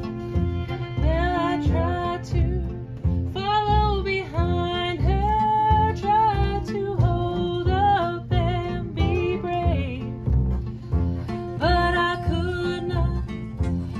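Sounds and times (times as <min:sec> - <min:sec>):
acoustic guitar: 0:00.0 - 0:13.9
upright bass: 0:00.0 - 0:13.9.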